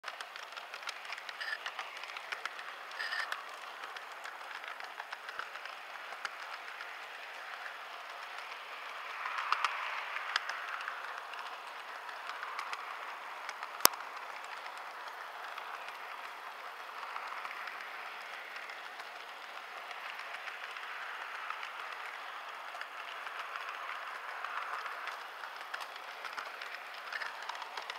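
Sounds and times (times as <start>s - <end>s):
model train running on track: 0.0s - 27.9s.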